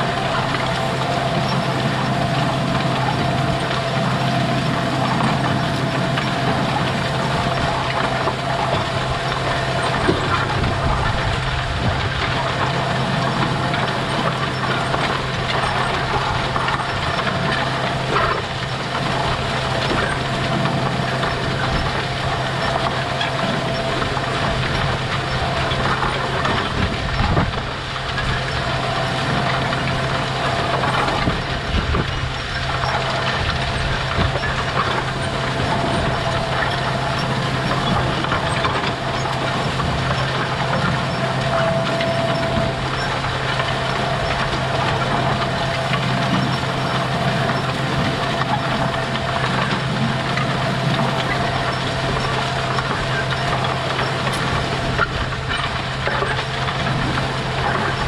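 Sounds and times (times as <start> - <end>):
planter rattling and knocking: 0.0 - 58.0
tractor engine drone: 0.0 - 58.0.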